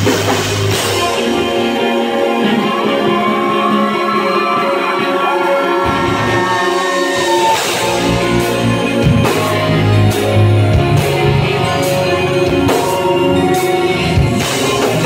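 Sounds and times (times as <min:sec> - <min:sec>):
bass guitar: 0:00.0 - 0:15.0
drums: 0:00.0 - 0:15.0
strummed electric guitar: 0:00.0 - 0:15.0.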